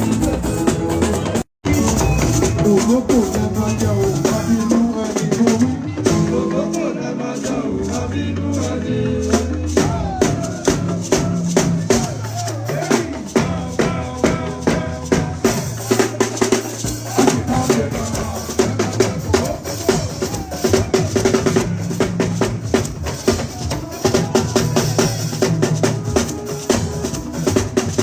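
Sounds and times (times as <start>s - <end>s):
drum kit and percussion: 0.0s - 28.0s
party band dance music: 0.0s - 28.0s
walking bass line: 0.0s - 28.0s.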